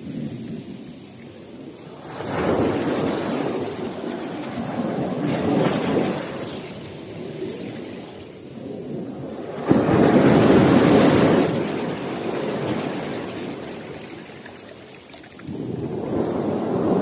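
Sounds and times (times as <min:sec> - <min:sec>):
sea waves breaking on shore: 0:00.1 - 0:17.0.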